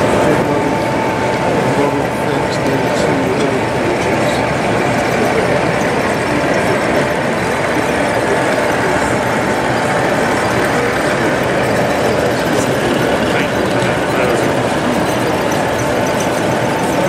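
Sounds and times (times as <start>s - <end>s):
diesel engine sound through speaker: 0.0s - 17.0s.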